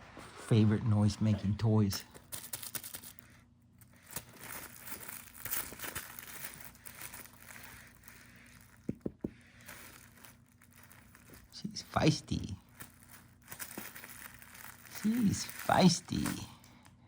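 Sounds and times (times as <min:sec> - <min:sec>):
crinkly toy rustling: 0:01.9 - 0:17.0.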